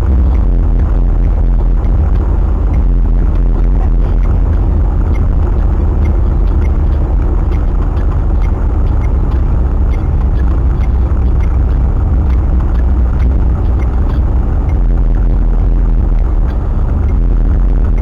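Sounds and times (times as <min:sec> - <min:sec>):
faint regular ticking: 0:00.0 - 0:18.0
wind buffeting microphone: 0:00.0 - 0:18.0.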